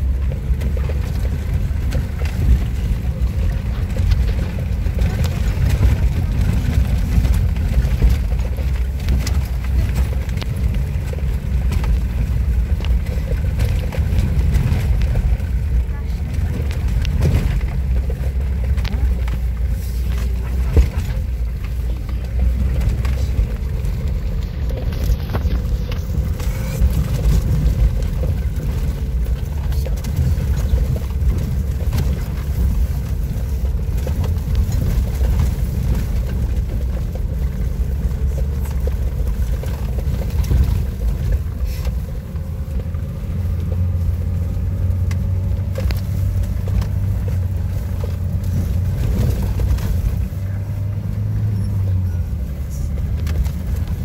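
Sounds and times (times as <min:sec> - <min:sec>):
knocks and rattles: 0:00.0 - 0:54.0
vehicle engine rumble: 0:00.0 - 0:54.0.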